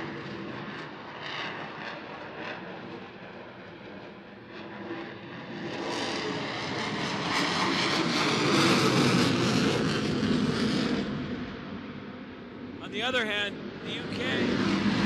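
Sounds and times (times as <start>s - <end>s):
jet fighter flying past: 0.0s - 15.0s.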